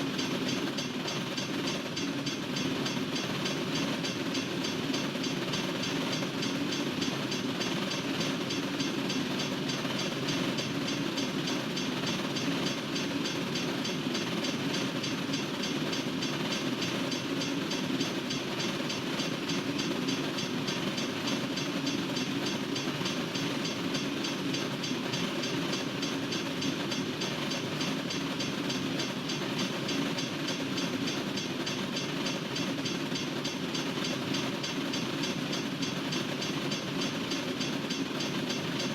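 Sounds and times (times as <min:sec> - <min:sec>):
freight train wheels rattling: 0:00.0 - 0:38.9.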